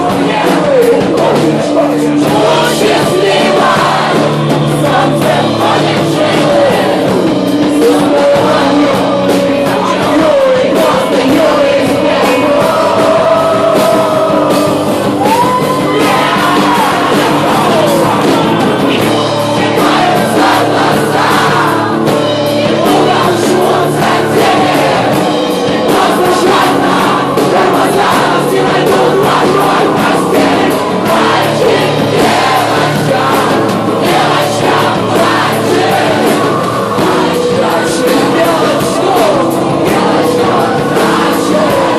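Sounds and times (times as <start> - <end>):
acoustic rock band playing: 0.0 - 41.9
lead singer singing: 0.0 - 41.9.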